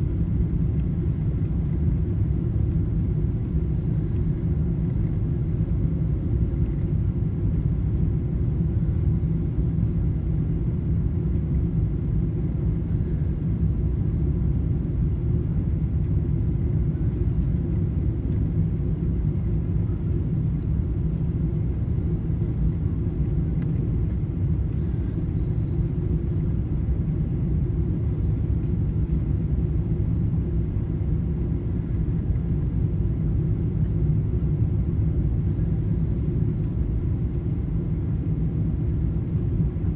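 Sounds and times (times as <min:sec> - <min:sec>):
airliner low rumble: 0:00.0 - 0:39.9.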